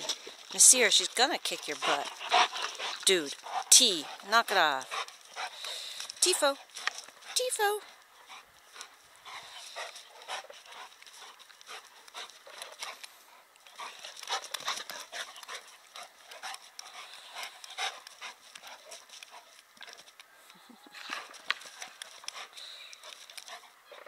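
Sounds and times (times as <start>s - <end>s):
dogs panting: 0.0s - 20.2s, 20.8s - 24.0s
paws scuffling on dirt: 0.0s - 24.0s.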